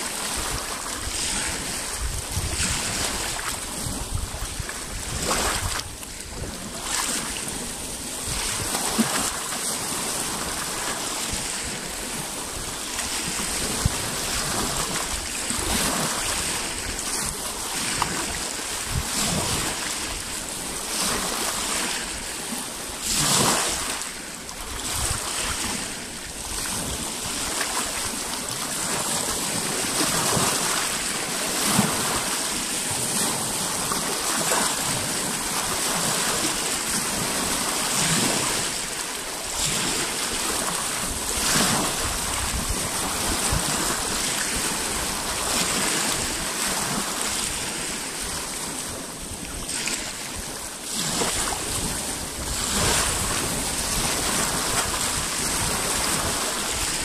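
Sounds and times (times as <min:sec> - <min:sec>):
wave breaking splash: 0:00.0 - 0:24.2, 0:26.6 - 0:48.7
waves washing against rocks: 0:00.0 - 0:57.0.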